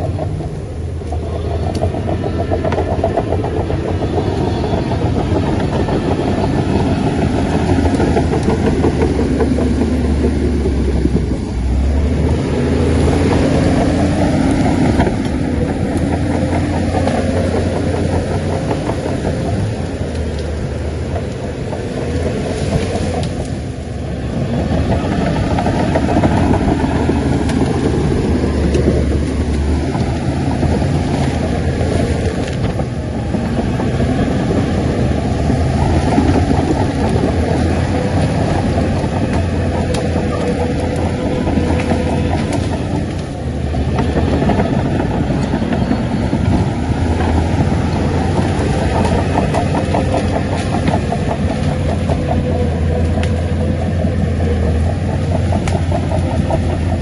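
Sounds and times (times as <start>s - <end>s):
diesel engine working under load: 0.0s - 57.0s.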